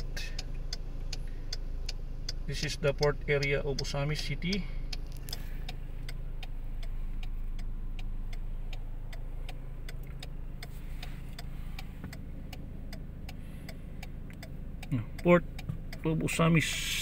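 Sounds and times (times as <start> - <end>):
car engine hum: 0.0 - 17.0
turn signal ticking: 0.0 - 17.0.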